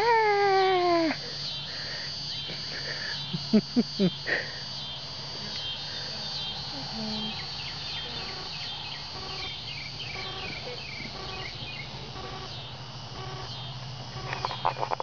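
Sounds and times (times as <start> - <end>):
crickets chirping: 0.0 - 15.0
low steady hum: 0.0 - 15.0.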